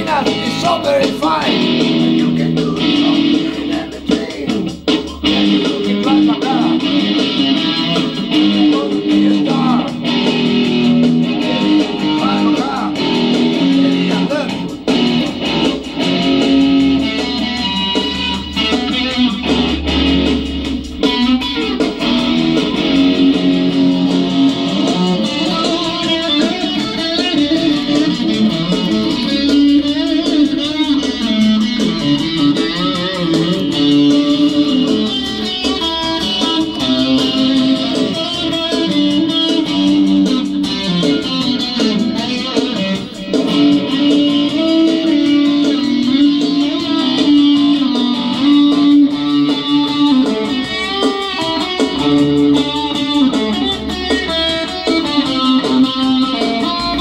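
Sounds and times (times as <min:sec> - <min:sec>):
electric guitar playing rock: 0:00.0 - 0:57.0.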